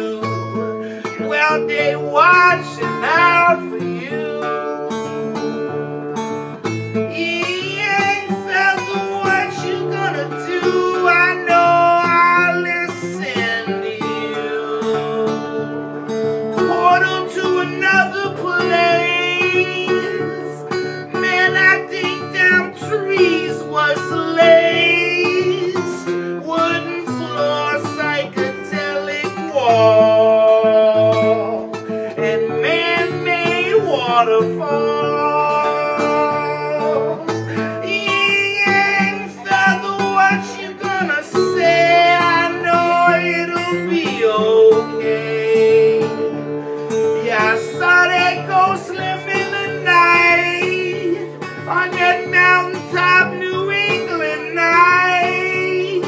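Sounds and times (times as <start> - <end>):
acoustic guitar chords: 0.0 - 56.0
man singing: 0.0 - 56.0.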